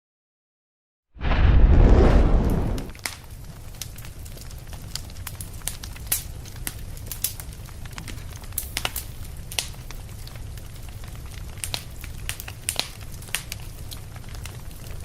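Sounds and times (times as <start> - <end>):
fire crackling and popping: 1.2 - 15.0
fire rumbling: 1.2 - 15.0.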